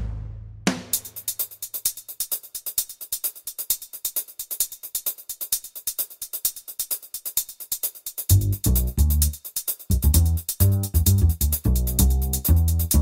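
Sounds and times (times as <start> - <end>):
electronic music ticking beat: 1.0 - 13.0.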